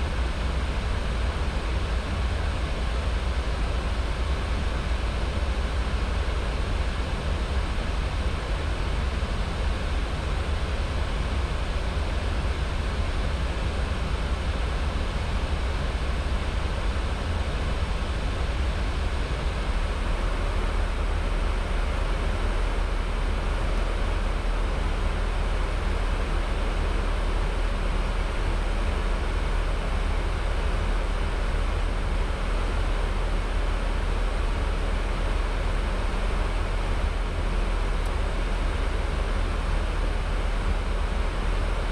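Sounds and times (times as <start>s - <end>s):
aircraft engine rumble: 0.0s - 41.9s.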